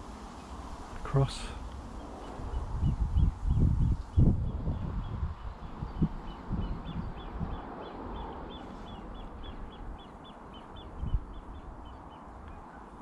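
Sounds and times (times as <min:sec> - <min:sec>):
constant low rustle: 0:00.0 - 0:13.0.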